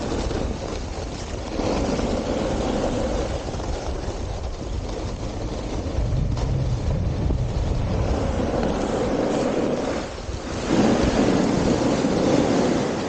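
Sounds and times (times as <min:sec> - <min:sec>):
skis hissing over snow: 0:00.0 - 0:13.0
wind buffeting microphone: 0:00.0 - 0:13.0.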